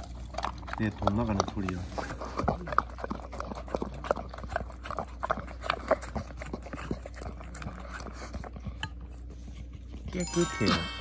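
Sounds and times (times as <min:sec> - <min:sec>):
dog licking metal bowl: 0:00.0 - 0:10.1.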